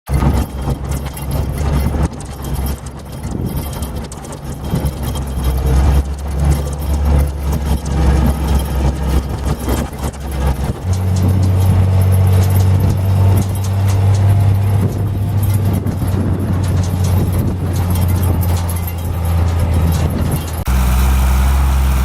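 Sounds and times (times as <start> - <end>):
tractor engine idling: 0.2 - 22.0.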